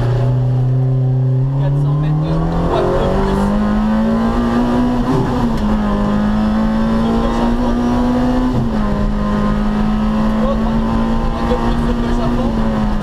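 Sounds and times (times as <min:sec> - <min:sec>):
rally car engine at high revs: 0:00.0 - 0:13.0
tyre and road noise: 0:00.0 - 0:13.0.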